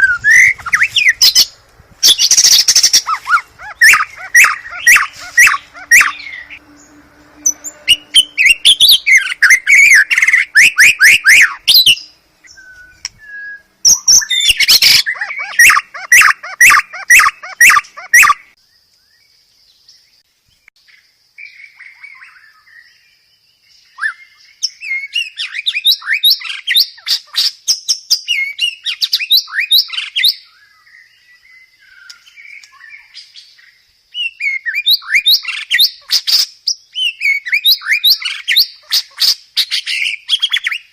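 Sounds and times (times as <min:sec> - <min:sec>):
songbird song: 0:00.0 - 0:40.9.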